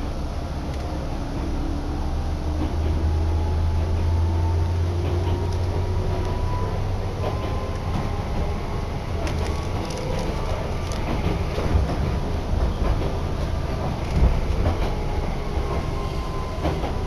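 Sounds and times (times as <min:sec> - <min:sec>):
train rumble inside carriage: 0:00.0 - 0:17.0.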